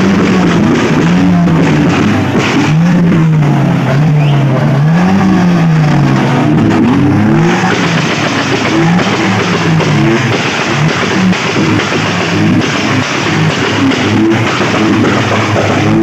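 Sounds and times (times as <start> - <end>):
car engine revving: 0.0 - 16.0
music playing: 0.0 - 16.0.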